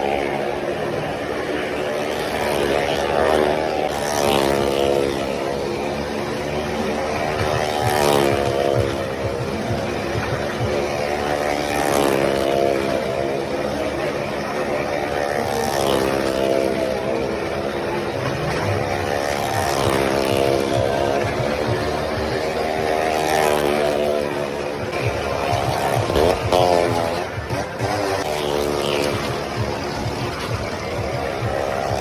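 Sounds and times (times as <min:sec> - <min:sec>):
motorcycle engine running hard: 0:00.0 - 0:32.0.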